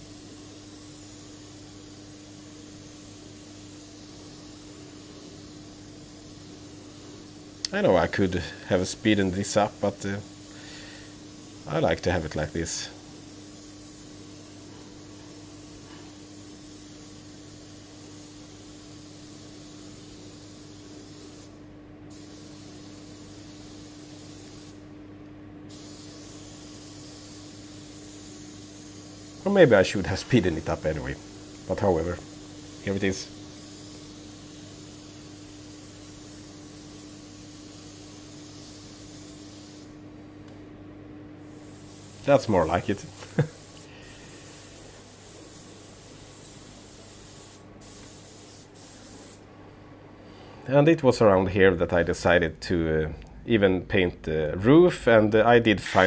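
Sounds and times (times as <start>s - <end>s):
paint spray gun hissing: 0.0s - 24.8s, 25.7s - 39.9s, 41.4s - 49.4s.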